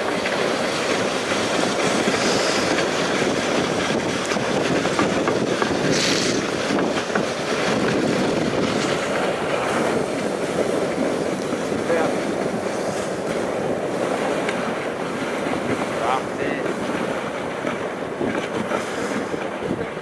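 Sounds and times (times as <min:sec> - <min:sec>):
sled runners scraping snow: 0:00.0 - 0:20.0.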